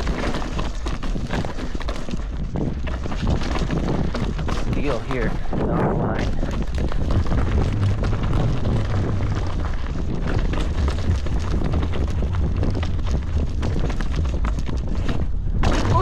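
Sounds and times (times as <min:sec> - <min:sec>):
bike tyres and chain rattling: 0:00.0 - 0:16.0
wind buffeting microphone: 0:00.0 - 0:16.0.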